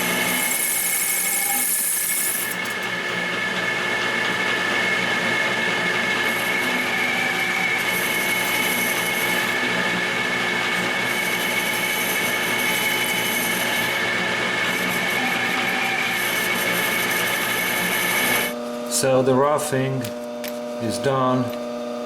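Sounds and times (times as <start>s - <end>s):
metal lathe whine: 0.0s - 18.7s.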